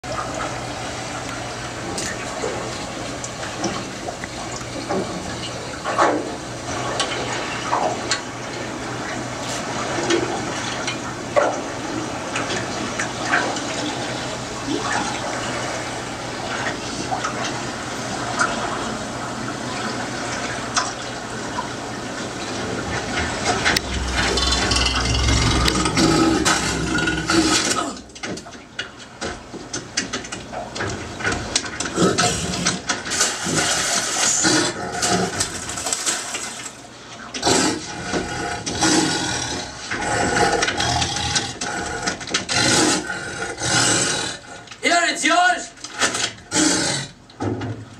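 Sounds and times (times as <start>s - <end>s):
surging water with deep rumble: 0.0s - 44.8s.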